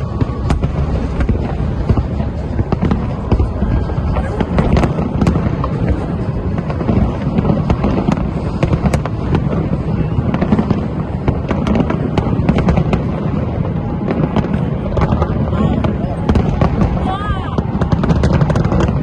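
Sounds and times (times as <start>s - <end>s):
fireworks bursts and crackles: 0.0s - 19.0s.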